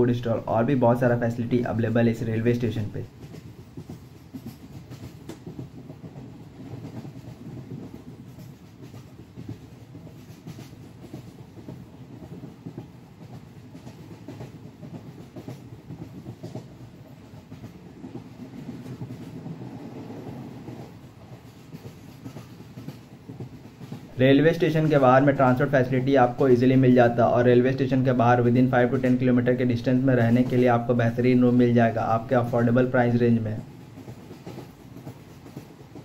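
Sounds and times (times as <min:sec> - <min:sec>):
train rumbling on rails: 0:00.0 - 0:36.0
wheels clicking on track: 0:00.0 - 0:36.0.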